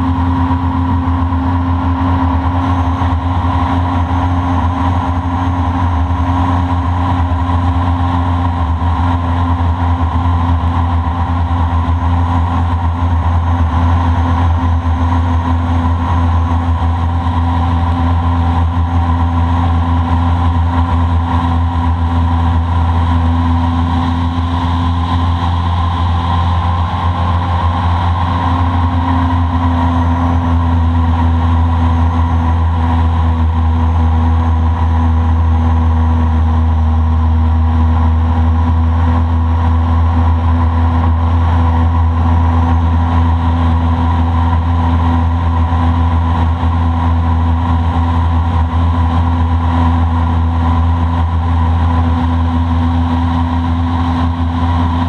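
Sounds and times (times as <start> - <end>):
boat motor running: 0.0 - 55.0.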